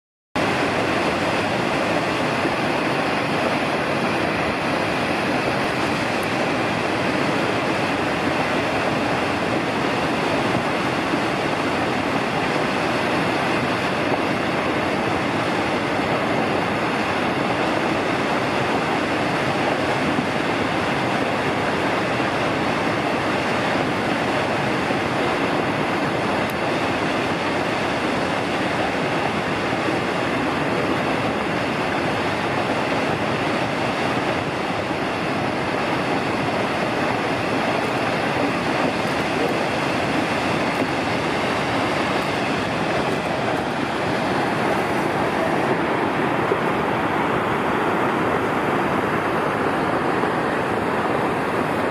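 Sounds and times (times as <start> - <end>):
waterfall rushing: 0.4 - 51.9.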